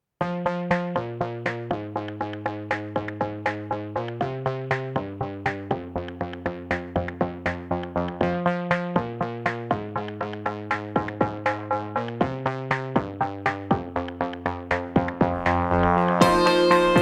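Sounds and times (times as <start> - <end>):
electronic instrumental music: 0.2 - 17.0.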